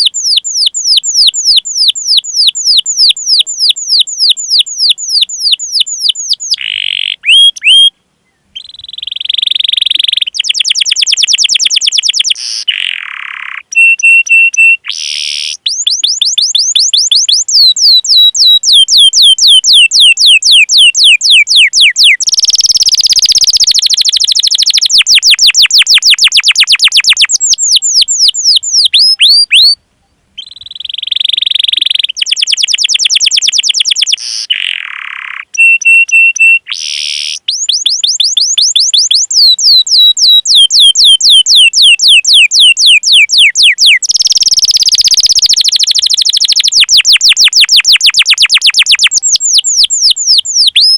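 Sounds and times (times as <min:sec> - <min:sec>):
canary singing: 0:00.0 - 0:29.8, 0:30.4 - 0:50.9.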